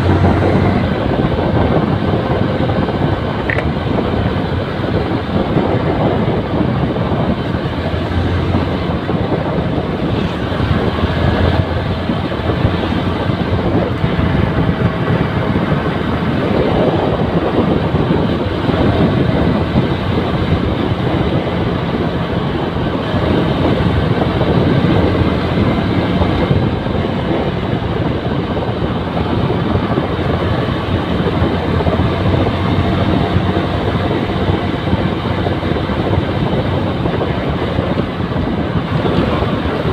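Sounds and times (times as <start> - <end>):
motorcycle engine running: 0.0 - 39.9
road noise rushing: 0.0 - 39.9.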